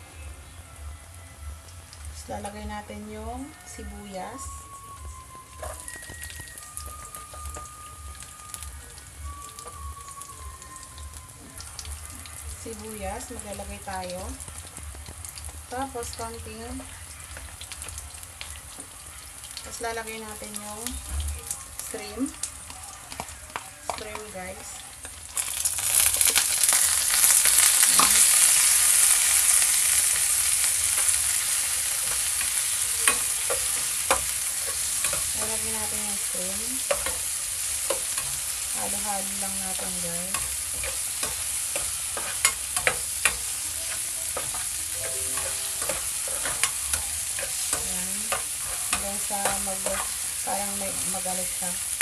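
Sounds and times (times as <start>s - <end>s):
onion sizzling in oil: 1.6s - 52.0s
oil crackling and popping: 5.3s - 13.3s, 14.0s - 19.9s, 20.8s - 52.0s.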